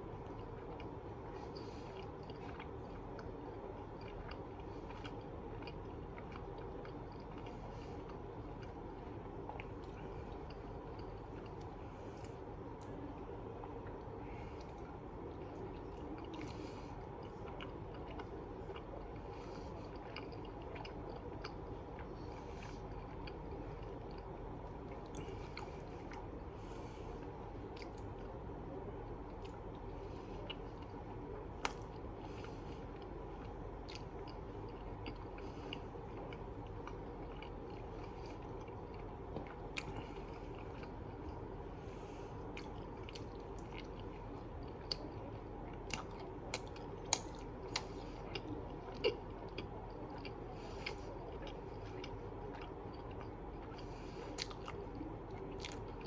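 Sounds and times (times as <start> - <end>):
chewing and wet mouth sounds: 0.0 - 56.0
steady low hum: 0.0 - 56.0.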